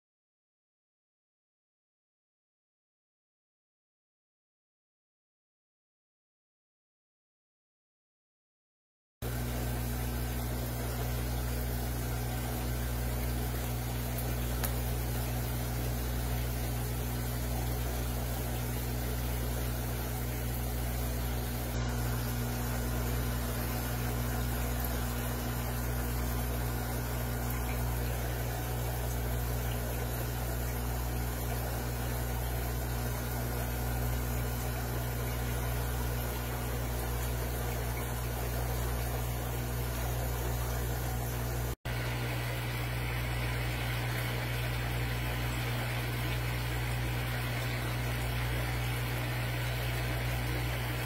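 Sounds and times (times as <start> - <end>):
aquarium pump hum: 9.2 - 51.0.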